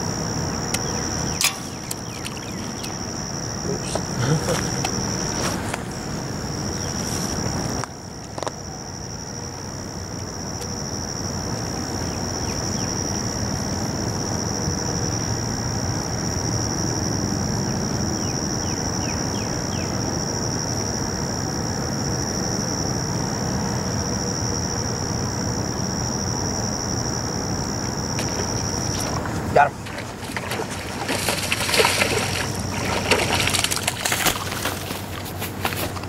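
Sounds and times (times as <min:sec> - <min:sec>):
insect trilling: 0:00.0 - 0:36.0.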